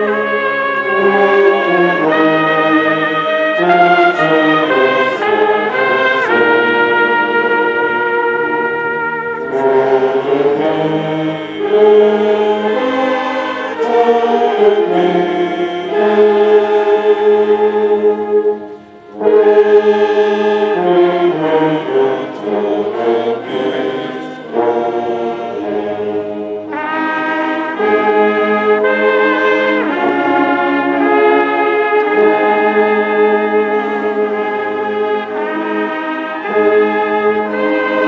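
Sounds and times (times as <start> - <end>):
brass band playing chords: 0.0 - 38.0.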